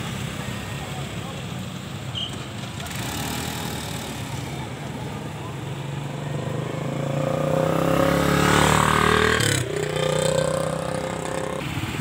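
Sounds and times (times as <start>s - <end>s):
motorcycle engines passing: 0.0s - 12.0s.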